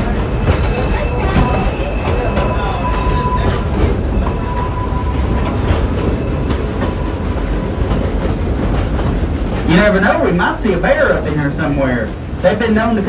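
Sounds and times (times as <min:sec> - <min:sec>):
train car rumbling on track: 0:00.0 - 0:13.0
wheels clicking over rails: 0:00.0 - 0:13.0.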